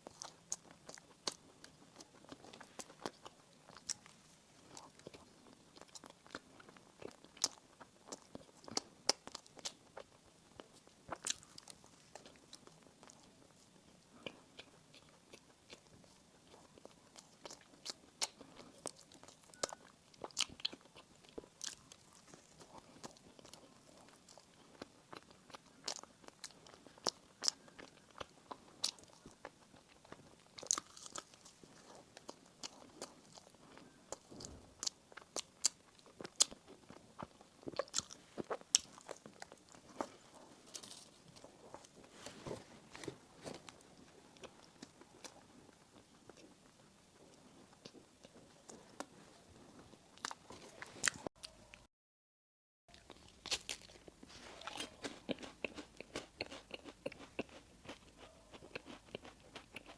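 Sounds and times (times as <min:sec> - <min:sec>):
biting and chewing bread: 0:00.0 - 0:51.8, 0:52.9 - 0:59.9.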